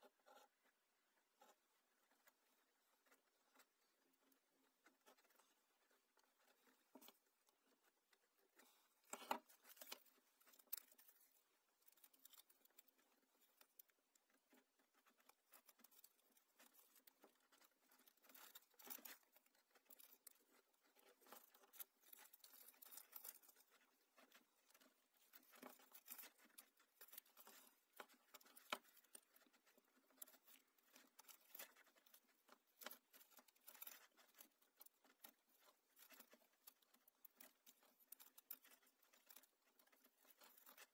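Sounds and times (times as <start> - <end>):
tape rustling and crinkling: 1.9 - 40.9.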